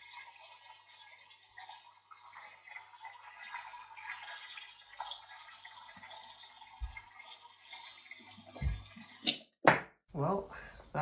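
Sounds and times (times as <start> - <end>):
water trickling and gurgling: 0.0 - 9.6.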